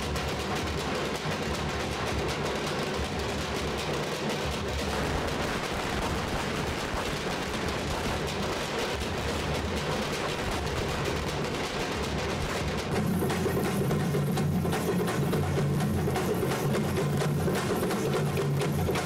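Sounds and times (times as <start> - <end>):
frame drums beaten fast: 0.0 - 19.0.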